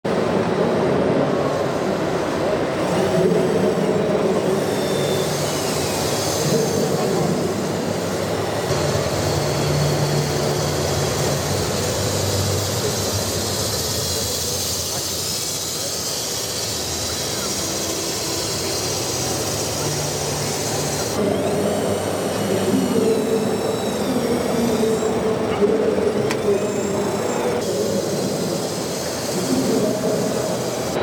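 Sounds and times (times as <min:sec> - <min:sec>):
toy construction machines whining: 0:00.2 - 0:31.0.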